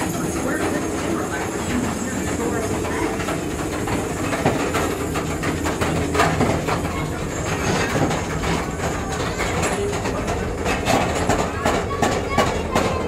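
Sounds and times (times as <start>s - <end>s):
ride train rumbling on track: 0.0s - 13.0s
wheels clicking and rattling: 0.0s - 13.0s.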